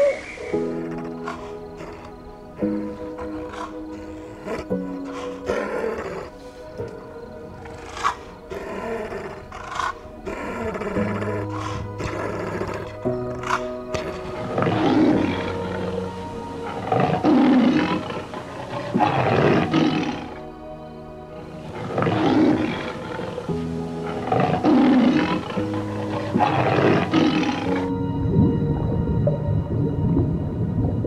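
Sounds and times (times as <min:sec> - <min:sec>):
large animal rough calls: 0:00.0 - 0:06.8, 0:07.6 - 0:20.7, 0:21.4 - 0:28.0
background music with held notes: 0:00.0 - 0:31.0.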